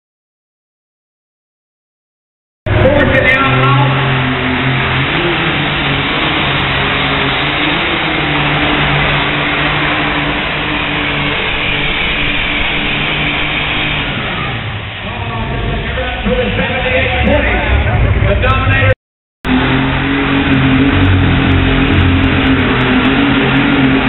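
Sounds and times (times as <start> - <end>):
tractor engine at full throttle: 2.7 - 24.0.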